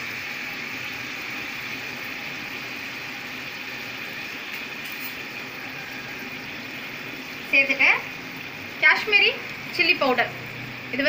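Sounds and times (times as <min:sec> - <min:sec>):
chicken sizzling in butter and oil: 0:00.0 - 0:11.0.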